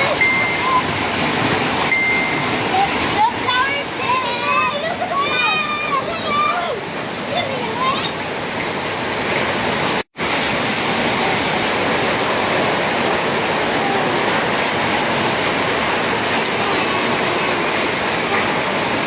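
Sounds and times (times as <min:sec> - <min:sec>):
rain pouring: 0:00.0 - 0:19.0.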